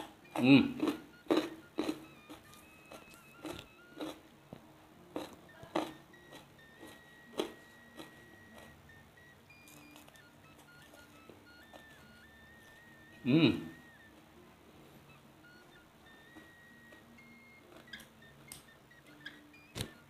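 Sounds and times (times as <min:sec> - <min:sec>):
chewing and eating by hand: 0:00.0 - 0:13.2, 0:15.4 - 0:20.0
quiet background music: 0:00.0 - 0:20.0.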